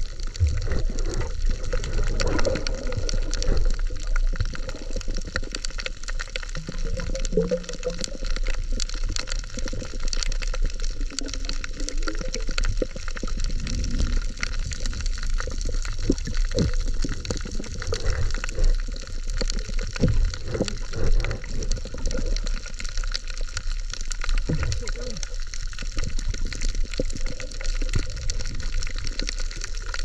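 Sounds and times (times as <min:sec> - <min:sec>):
bubbling gurgles: 0:00.0 - 0:30.0
underwater water rush: 0:00.0 - 0:30.0.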